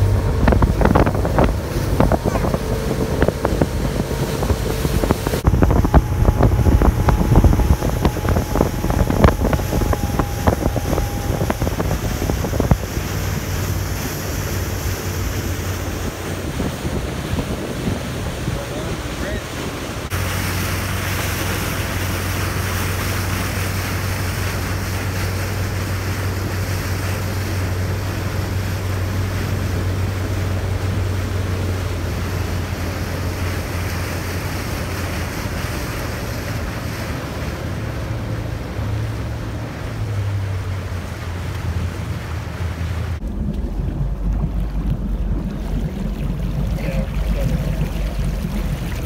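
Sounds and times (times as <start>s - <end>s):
motorboat engine humming: 0.0s - 49.0s
water rushing along hull: 0.0s - 49.0s
wind buffeting microphone: 0.0s - 49.0s.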